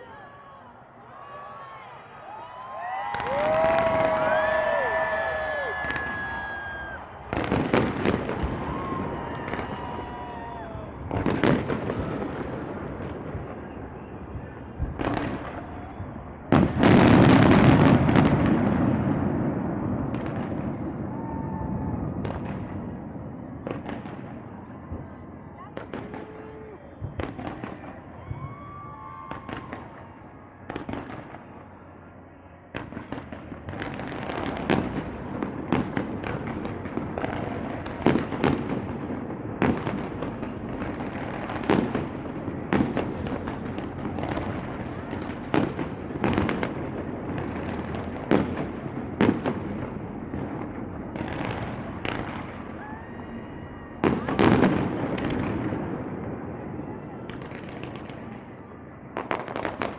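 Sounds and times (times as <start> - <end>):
fireworks bursting with bangs: 2.6 - 59.9.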